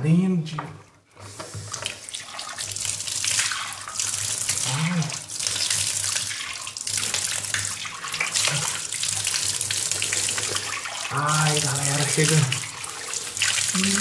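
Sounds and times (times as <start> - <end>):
tap water running into sink: 1.2 - 14.0.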